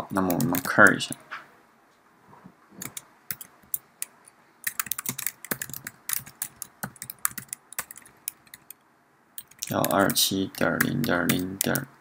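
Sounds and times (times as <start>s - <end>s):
keyboard typing: 0.0s - 1.2s, 2.8s - 8.8s, 9.4s - 12.0s.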